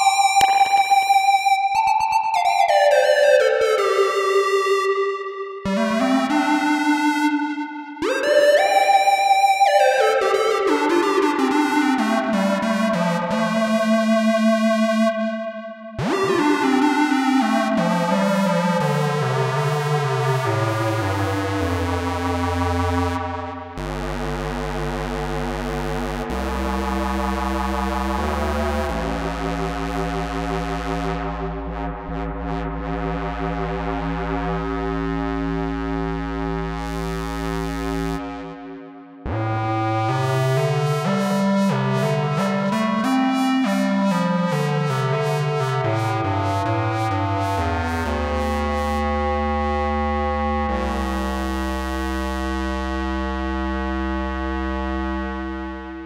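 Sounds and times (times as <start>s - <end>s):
analog synth notes with echo: 0.0s - 56.0s.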